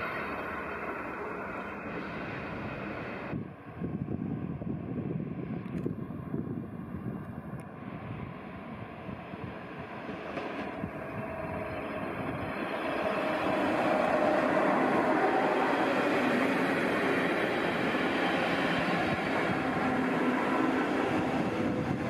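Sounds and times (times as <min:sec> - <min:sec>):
train passing on rails: 0:00.0 - 0:22.0.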